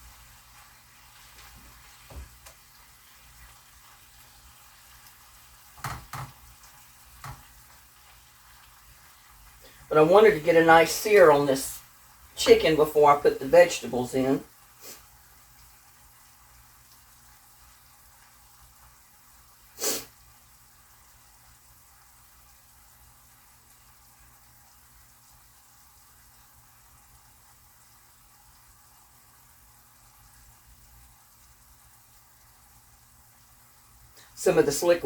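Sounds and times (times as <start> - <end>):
chicken sizzling in frying pan: 0.0 - 35.0.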